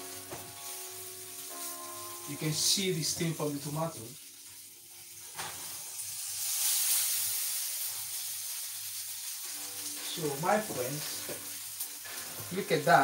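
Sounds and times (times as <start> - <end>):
tomatoes sizzling on a hot tray: 0.0 - 13.0.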